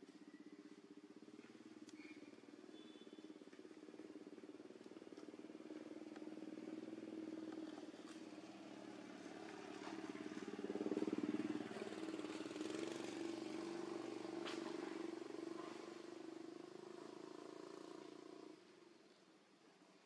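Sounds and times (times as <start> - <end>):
small engine running: 0.0 - 19.2.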